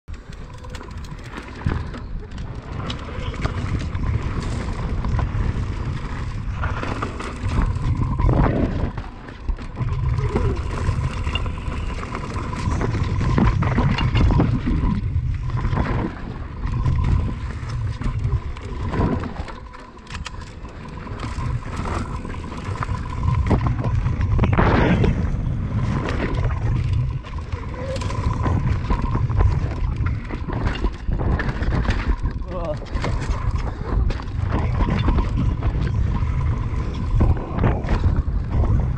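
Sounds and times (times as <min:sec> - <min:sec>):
wind buffeting microphone: 0:00.1 - 0:19.6, 0:20.2 - 0:38.9
bike tyres crunching on dirt: 0:00.1 - 0:38.9.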